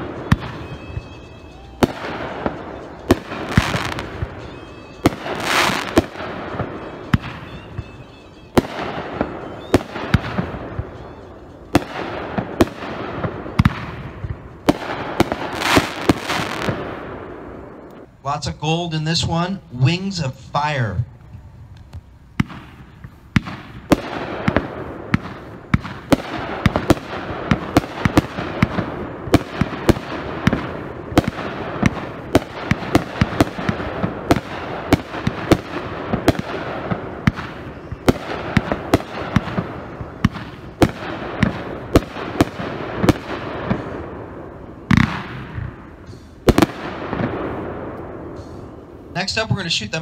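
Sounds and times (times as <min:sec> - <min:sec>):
loud firework booms: 0:00.0 - 0:01.2, 0:01.8 - 0:08.0, 0:08.6 - 0:17.8, 0:22.4 - 0:49.6
firework shots firing rapidly: 0:00.0 - 0:08.0, 0:08.6 - 0:17.2, 0:22.4 - 0:44.3, 0:44.9 - 0:45.8, 0:46.4 - 0:48.5
firework crackle: 0:00.0 - 0:19.2, 0:21.6 - 0:50.0.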